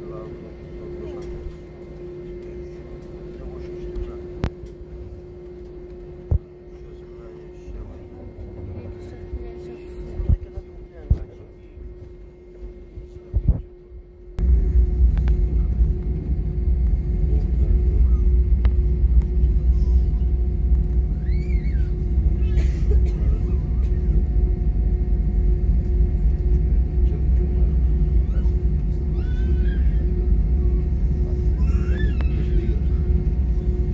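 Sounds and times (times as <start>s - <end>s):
airliner engines rumbling: 0.0s - 33.9s.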